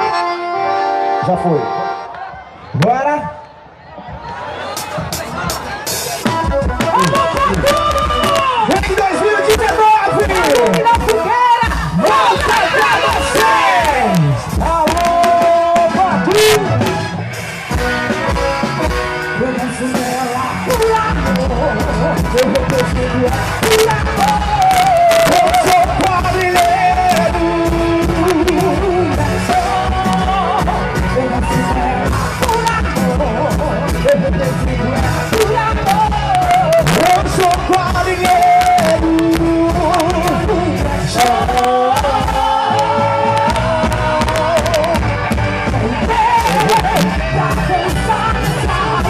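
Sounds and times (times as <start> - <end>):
live band playing upbeat tune: 0.0 - 49.0.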